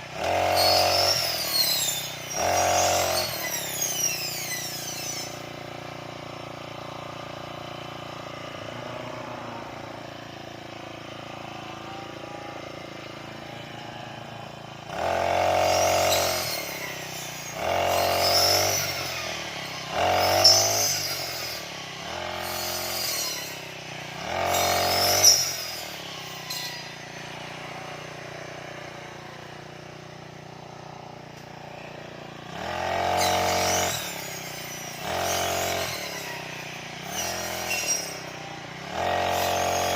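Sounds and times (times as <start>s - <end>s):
brush cutter revving: 0.0s - 39.9s.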